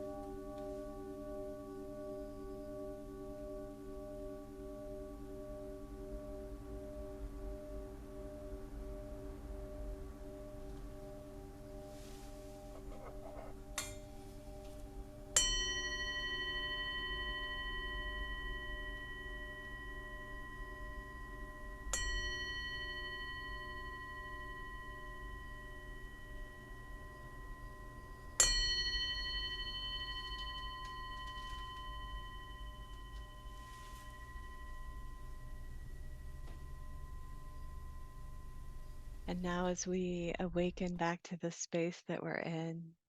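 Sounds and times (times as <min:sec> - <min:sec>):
singing bowl strikes: 0:00.0 - 0:39.3
steady low ringing: 0:00.0 - 0:41.2.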